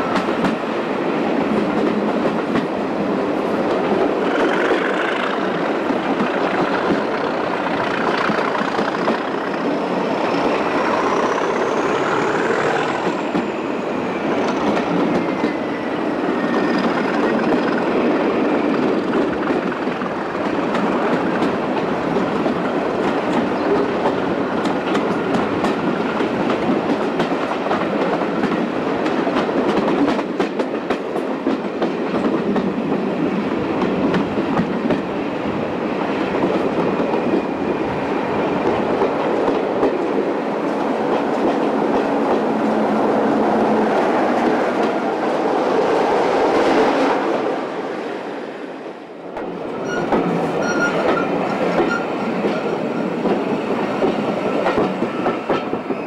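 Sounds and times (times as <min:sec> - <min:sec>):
passing train: 0:00.0 - 0:56.0
train wheels rumbling and clattering: 0:00.0 - 0:56.0.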